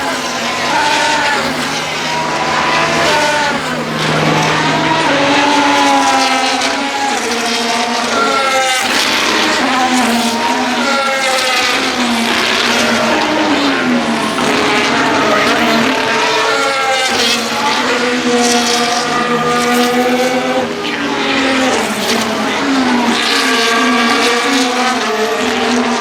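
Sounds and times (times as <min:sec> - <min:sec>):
racing cars passing by: 0:00.0 - 0:26.0.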